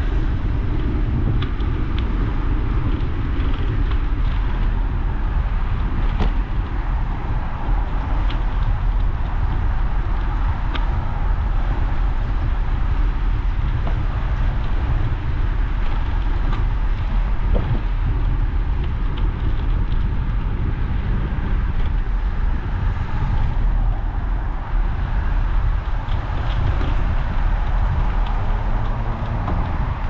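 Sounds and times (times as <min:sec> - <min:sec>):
bicycle road noise: 0:00.0 - 0:30.0
wind on microphone: 0:00.0 - 0:30.0.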